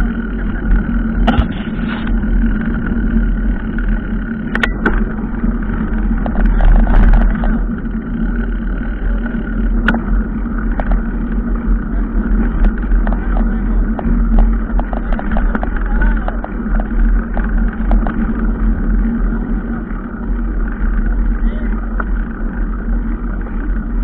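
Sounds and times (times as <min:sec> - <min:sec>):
sharp clicks and rattles: 0:00.0 - 0:24.0
vehicle rumbling in motion: 0:00.0 - 0:24.0.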